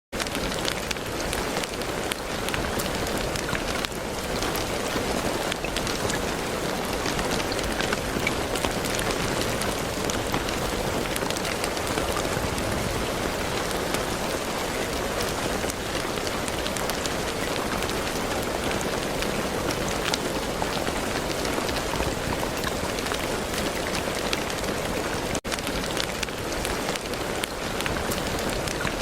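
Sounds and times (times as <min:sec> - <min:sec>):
steady rain falling: 0:00.2 - 0:29.0.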